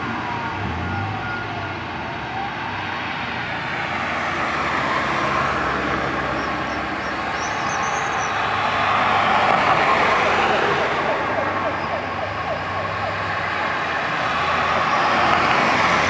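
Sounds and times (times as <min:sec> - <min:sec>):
distant fire engine siren: 0:00.0 - 0:16.0.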